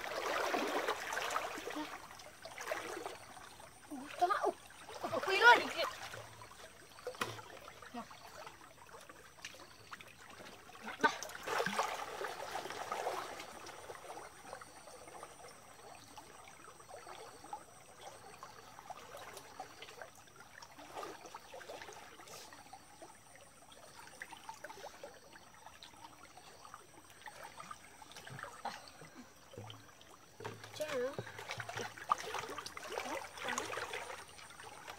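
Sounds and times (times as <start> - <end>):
people wading through water: 0.0 - 34.9
stream water trickling: 0.0 - 34.9.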